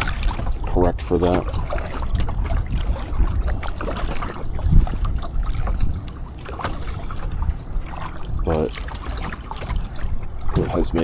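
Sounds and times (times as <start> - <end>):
water splashing around kayak: 0.0 - 11.0
wind rumbling on microphone: 0.0 - 11.0.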